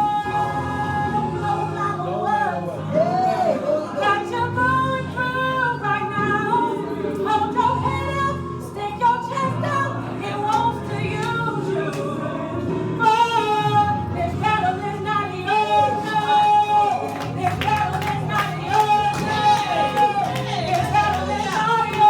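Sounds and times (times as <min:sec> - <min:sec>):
woman singing gospel: 0:00.0 - 0:22.0.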